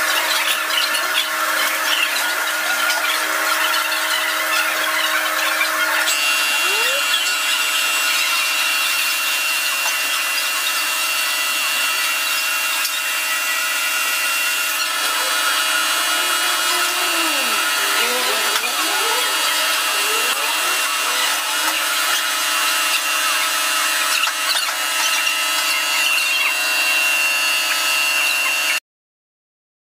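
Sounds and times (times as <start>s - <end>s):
laser cutter whirring: 0.0s - 28.8s
motor whine gliding up and down: 0.0s - 28.8s.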